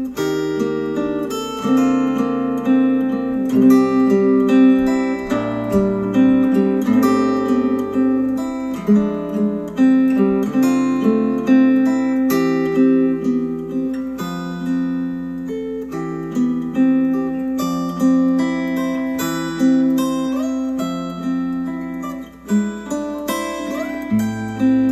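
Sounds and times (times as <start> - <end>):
acoustic guitar music: 0.0 - 24.9.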